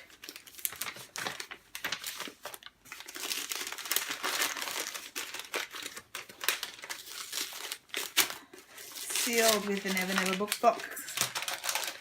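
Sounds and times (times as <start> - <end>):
wrapping crinkling: 0.0 - 12.0.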